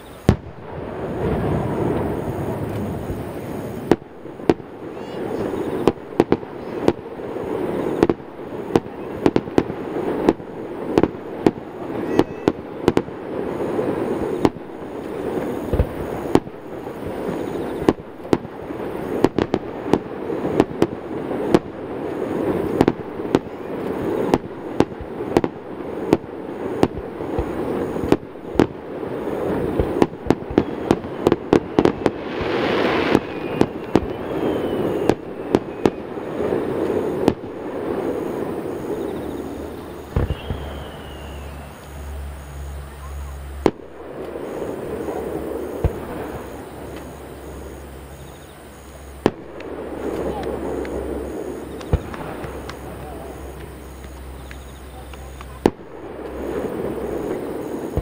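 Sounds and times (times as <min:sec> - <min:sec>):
fireworks shells bursting: 0:00.0 - 0:42.3, 0:43.6 - 0:58.0
steady rushing noise: 0:00.0 - 0:58.0.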